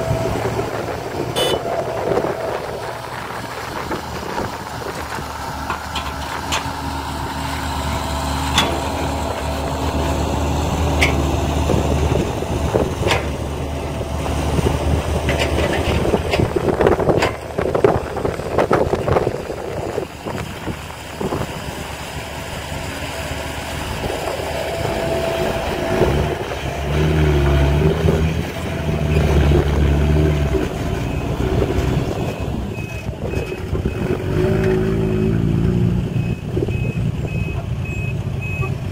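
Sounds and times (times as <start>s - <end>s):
diesel truck engines running: 0.0s - 38.9s.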